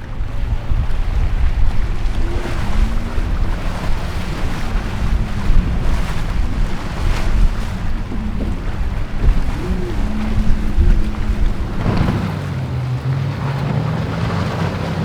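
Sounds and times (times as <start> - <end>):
boat engines running: 0.0 - 15.0
waves washing: 0.0 - 15.0
wind rumble on microphone: 0.0 - 15.0.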